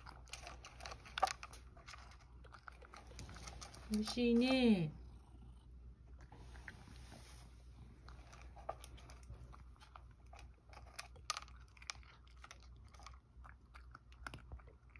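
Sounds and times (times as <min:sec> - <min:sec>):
cat crunching dry kibble: 0:00.0 - 0:06.9, 0:07.6 - 0:14.9.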